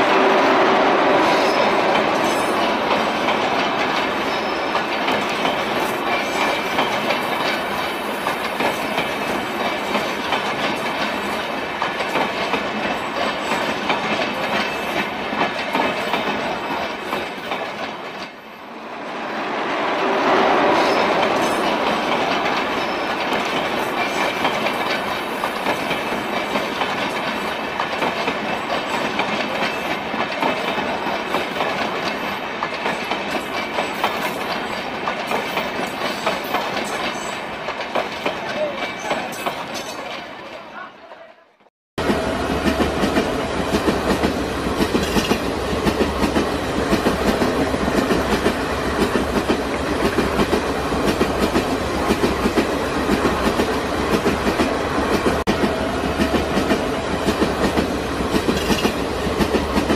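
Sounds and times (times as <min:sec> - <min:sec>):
train wheels clattering over rails: 0:00.0 - 0:18.5, 0:20.6 - 0:40.4, 0:42.0 - 0:59.9.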